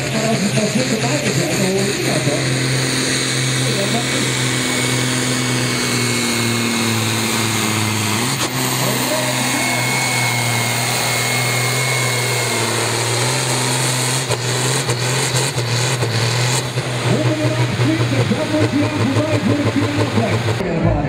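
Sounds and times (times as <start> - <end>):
diesel tractor engine under full load: 0.0 - 21.0.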